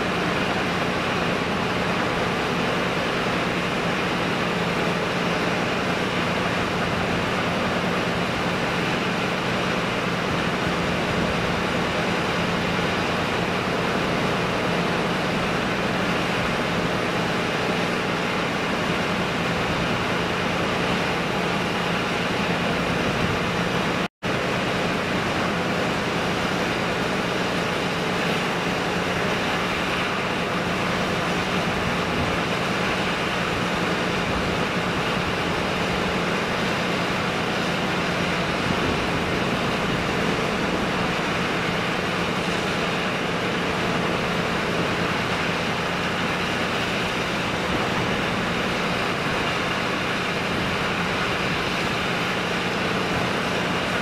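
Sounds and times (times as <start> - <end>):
hiss of wash and air: 0.0 - 54.0
ship diesel engine drone: 0.0 - 54.0.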